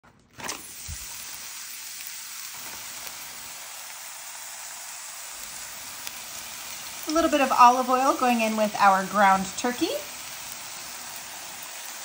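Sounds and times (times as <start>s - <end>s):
steady sizzling hiss: 0.4s - 12.0s.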